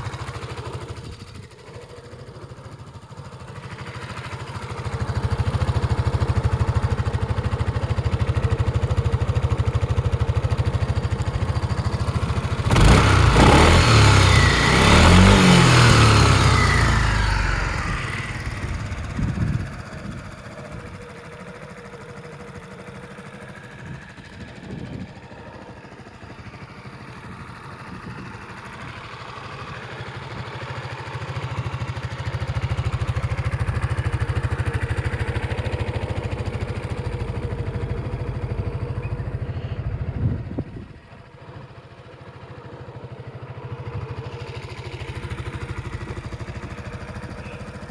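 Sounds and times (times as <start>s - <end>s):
scooter engine idling and revving: 0.0s - 47.9s.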